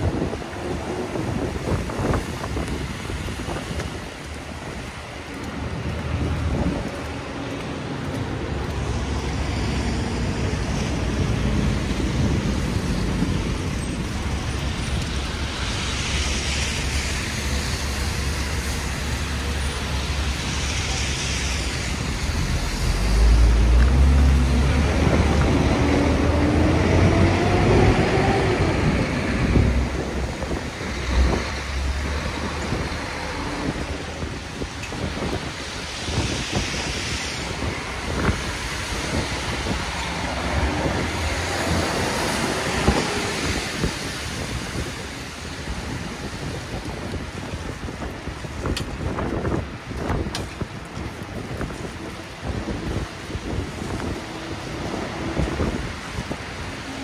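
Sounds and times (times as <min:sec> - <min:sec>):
passing traffic: 0:00.0 - 0:57.0.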